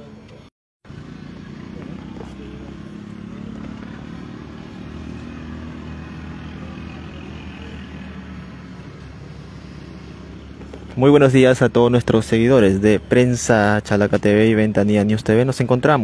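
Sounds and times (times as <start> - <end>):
vehicle engine running: 0.8 - 14.8.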